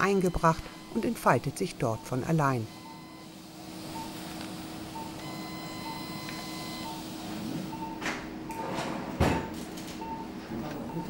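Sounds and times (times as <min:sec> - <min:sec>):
equipment humming: 0:00.0 - 0:11.0.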